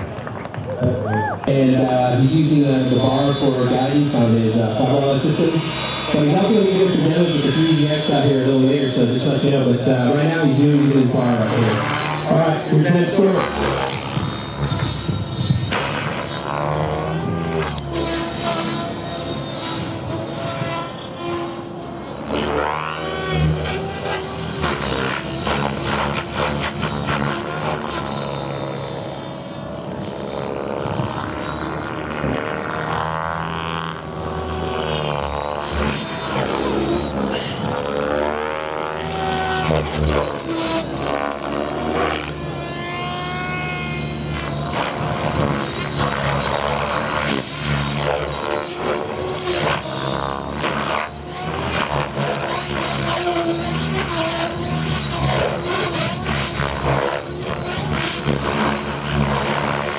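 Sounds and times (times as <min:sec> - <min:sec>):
model helicopter rotor and motor whine: 0:00.0 - 0:59.9.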